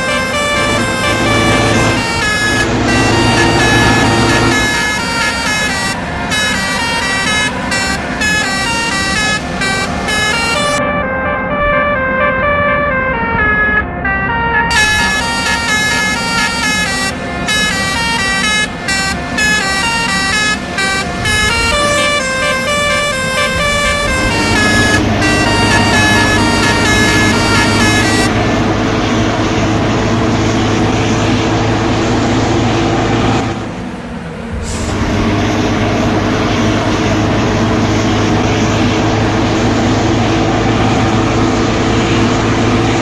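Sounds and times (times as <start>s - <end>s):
bus air horn playing a tune: 0.0s - 33.9s, 34.5s - 43.0s.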